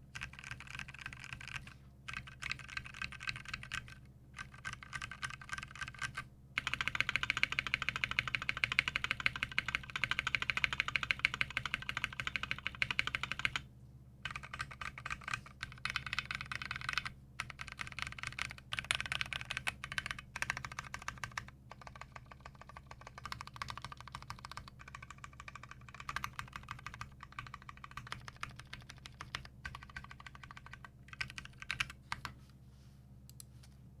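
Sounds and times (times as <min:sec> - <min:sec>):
mechanical keyboard clacking: 0:00.2 - 0:13.6, 0:14.3 - 0:32.3.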